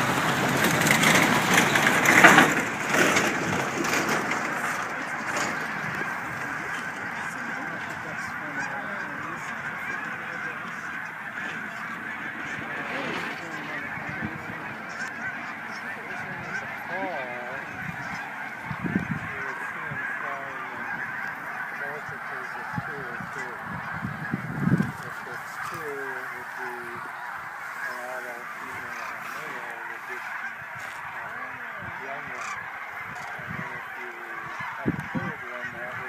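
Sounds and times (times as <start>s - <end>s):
low rumbles: 0.0s - 33.5s
crane calls: 0.0s - 36.0s
geese honking: 0.0s - 36.0s.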